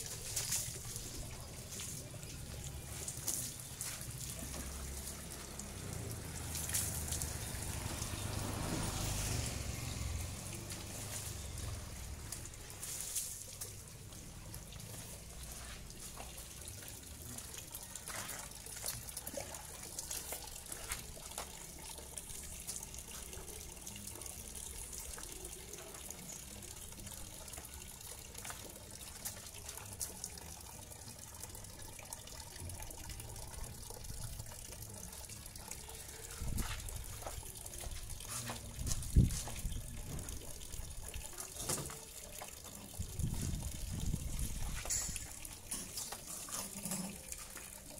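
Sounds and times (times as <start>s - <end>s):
water trickling and splashing: 0.0s - 47.9s.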